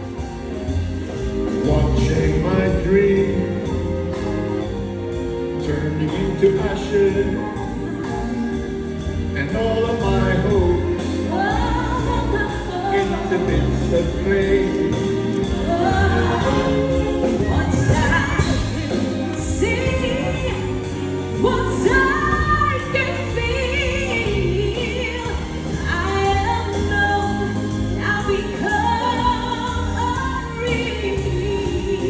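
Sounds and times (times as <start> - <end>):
live big band music: 0.0 - 32.0
person singing: 1.2 - 32.0.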